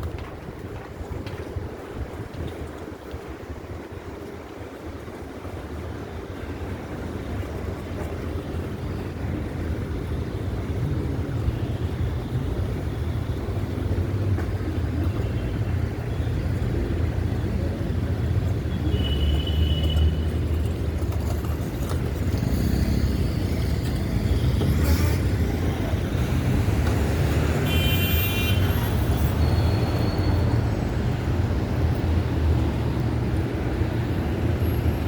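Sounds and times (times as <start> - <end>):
rumble of passing vehicles: 0.0 - 35.0.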